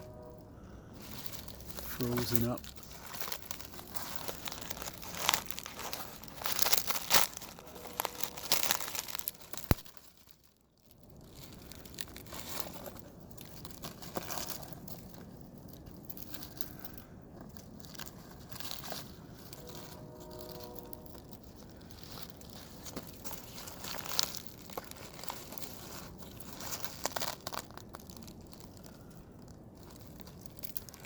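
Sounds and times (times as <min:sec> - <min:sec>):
papery nest crinkling and tearing: 0:00.0 - 0:31.0
quiet rustling: 0:00.0 - 0:31.0.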